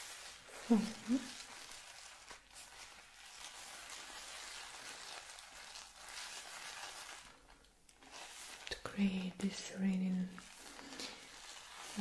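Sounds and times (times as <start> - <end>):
wet swishing of lather: 0.0 - 8.7, 10.4 - 12.0.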